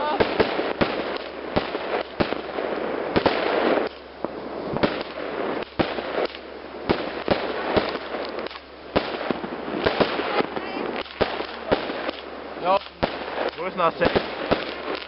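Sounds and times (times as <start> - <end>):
fireworks bangs: 0.0 - 15.0
fireworks crackling: 0.0 - 15.0
fizzing firework burst: 0.0 - 15.0.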